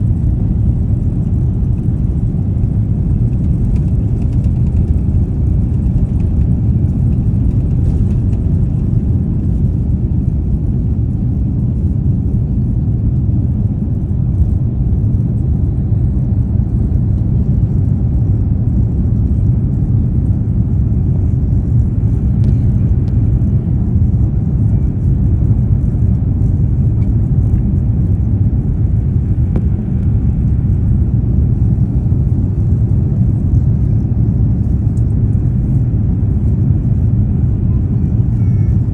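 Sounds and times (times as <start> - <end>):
jet engines loud rumble: 0.0 - 38.9.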